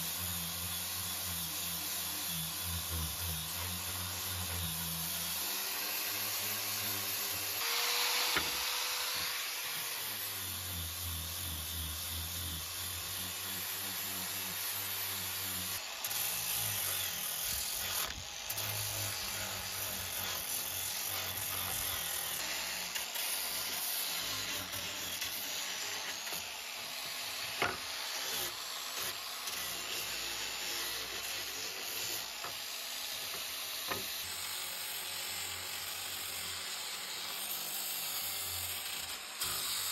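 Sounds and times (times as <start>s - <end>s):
wood being sanded: 0.0s - 39.9s.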